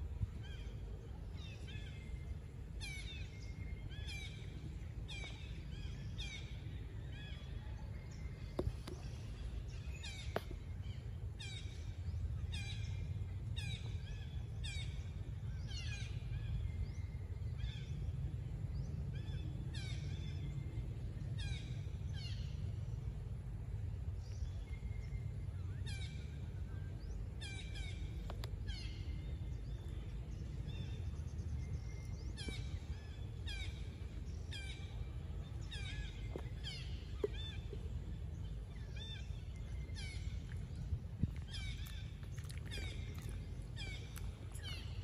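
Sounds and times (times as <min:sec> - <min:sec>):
steady low rumble: 0:00.0 - 0:45.0.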